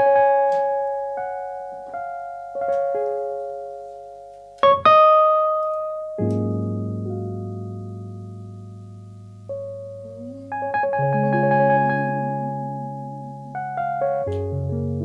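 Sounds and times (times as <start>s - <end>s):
jazz piano chords: 0.0s - 15.0s.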